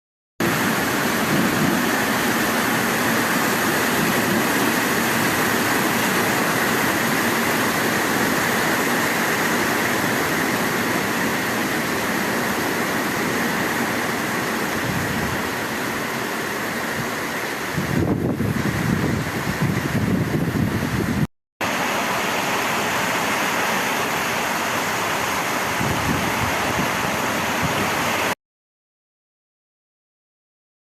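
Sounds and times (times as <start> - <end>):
heavy rain: 0.4 - 28.4.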